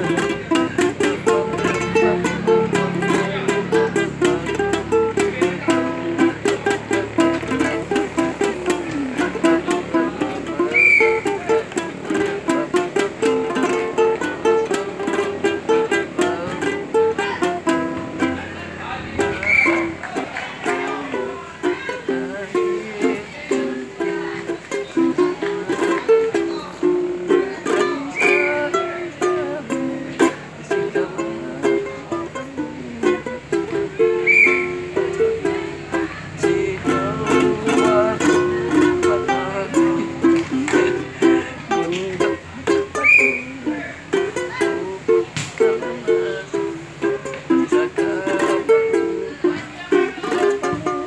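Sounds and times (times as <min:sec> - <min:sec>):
man singing folk song: 0:00.0 - 0:51.0
ukulele strumming: 0:00.0 - 0:51.0.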